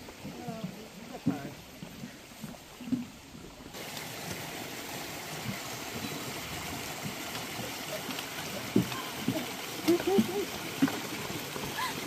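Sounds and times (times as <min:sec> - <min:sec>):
creek running: 0:00.0 - 0:12.0.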